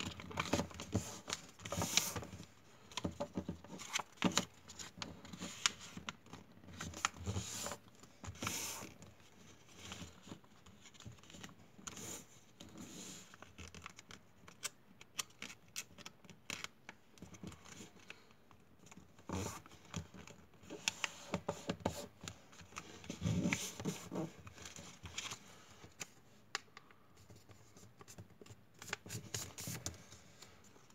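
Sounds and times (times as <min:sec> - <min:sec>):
hands rustling and scraping model: 0:00.0 - 0:30.9.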